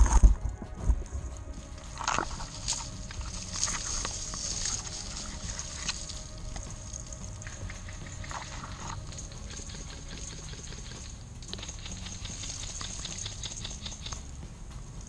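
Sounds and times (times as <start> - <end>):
low steady rumble: 0.0 - 15.0
vegetation rustling and crackling: 0.0 - 15.0.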